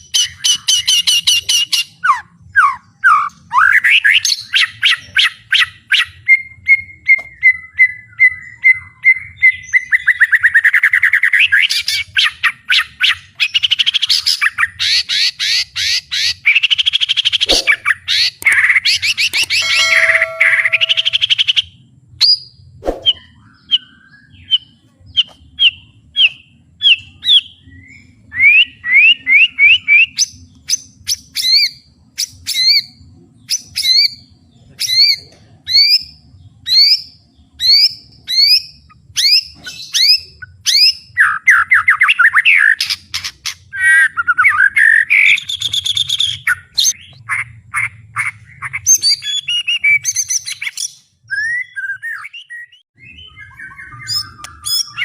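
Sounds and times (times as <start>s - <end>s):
songbird whistling and trilling: 0.1s - 34.2s, 34.8s - 55.0s.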